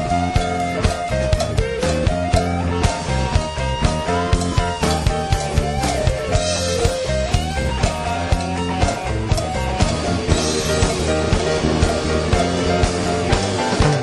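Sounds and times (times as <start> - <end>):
bass: 0.0 - 14.0
drum kit: 0.0 - 14.0
electric guitar: 0.0 - 14.0.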